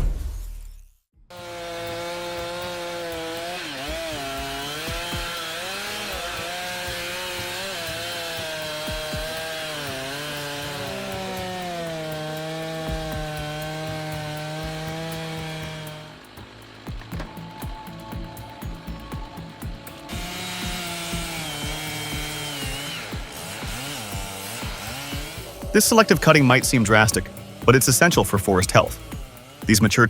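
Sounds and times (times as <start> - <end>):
chainsaw cutting wood: 1.3 - 30.0.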